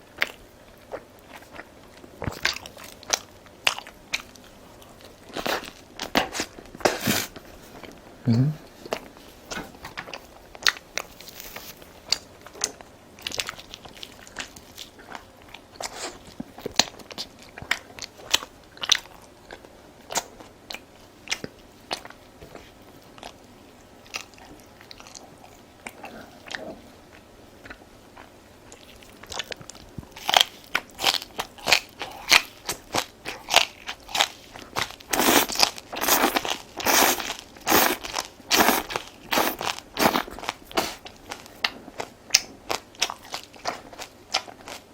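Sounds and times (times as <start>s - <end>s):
crunchy food being chewed: 0.0s - 44.9s.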